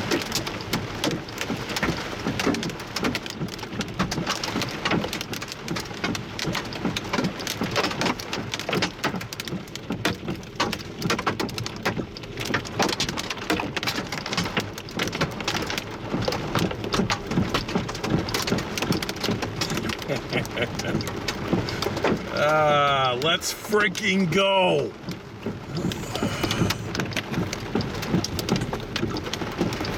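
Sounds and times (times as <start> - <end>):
hail clattering: 0.0 - 23.3, 24.9 - 29.9.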